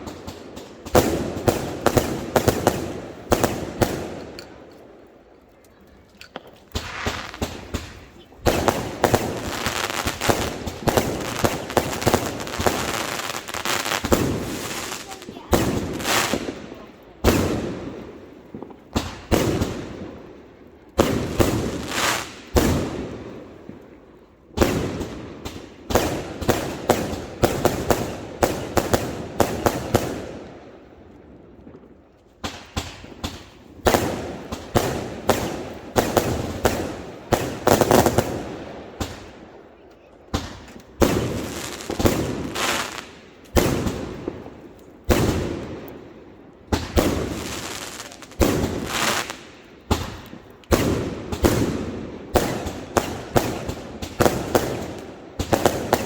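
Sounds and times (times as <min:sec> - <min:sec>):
fireworks bangs: 0:00.0 - 0:04.7, 0:06.4 - 0:20.4, 0:21.0 - 0:23.9, 0:24.6 - 0:30.8, 0:32.4 - 0:56.0.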